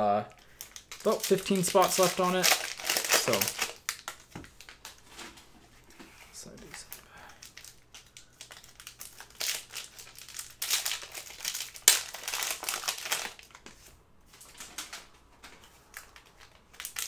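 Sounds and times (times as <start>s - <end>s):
plastic wrapper crinkling: 0.4s - 5.2s, 6.4s - 17.0s.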